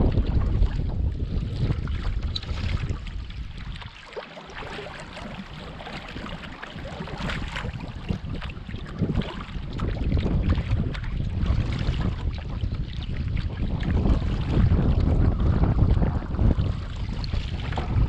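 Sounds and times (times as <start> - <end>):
paddle splashing water: 0.0 - 18.0
wind buffeting microphone: 0.0 - 18.0.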